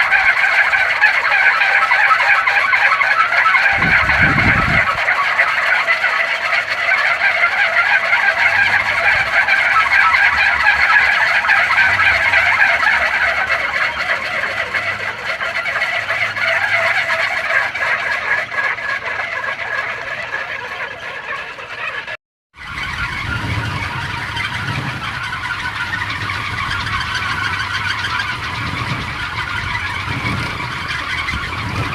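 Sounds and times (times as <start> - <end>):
wooden propeller whirring in wind: 0.0 - 31.9.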